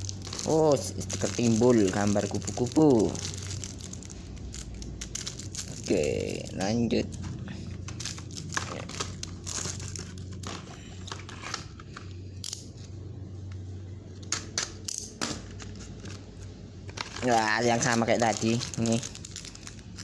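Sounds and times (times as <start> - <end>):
cardboard and plastic wrapping rustling: 0.0 - 12.2, 15.4 - 20.0.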